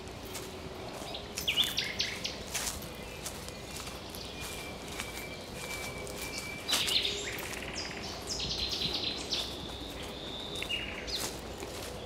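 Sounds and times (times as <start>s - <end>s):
footsteps crunching on dry leaves: 0.0s - 12.0s
songbird singing: 0.0s - 12.0s.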